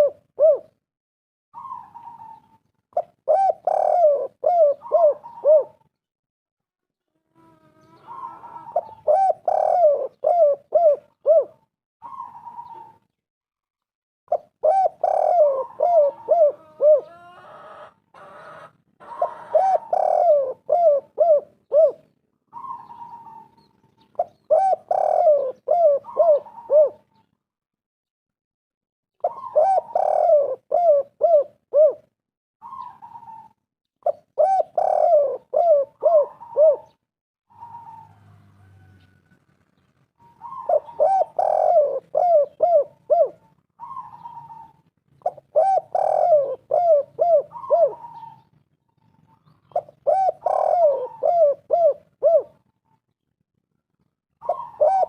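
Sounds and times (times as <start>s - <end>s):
dove cooing: 0.0s - 0.8s, 1.6s - 5.9s, 7.1s - 13.2s, 14.3s - 27.3s, 29.2s - 39.4s, 40.2s - 53.0s, 54.3s - 55.0s.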